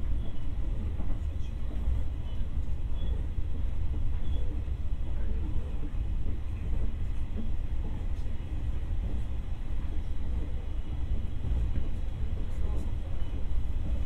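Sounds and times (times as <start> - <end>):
faint station ambience: 0.0 - 14.0
train low rumble: 0.0 - 14.0.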